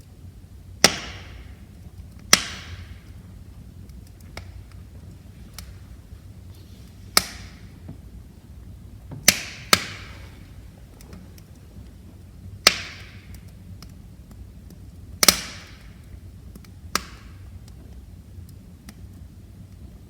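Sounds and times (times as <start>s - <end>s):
low rush of flames: 0.0s - 20.0s
wood fire crackling and popping: 0.0s - 20.0s.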